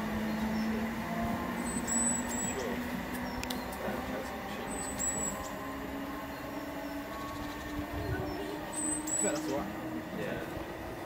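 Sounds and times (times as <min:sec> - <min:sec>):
distant train rumbling: 0:00.0 - 0:11.0.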